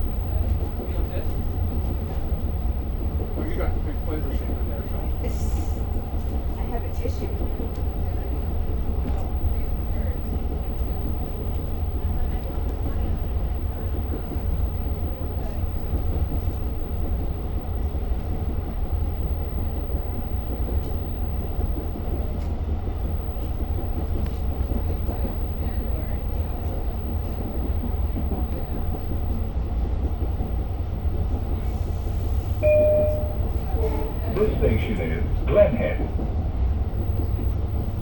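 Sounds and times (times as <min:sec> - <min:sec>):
diesel train rumbling: 0:00.0 - 0:38.0.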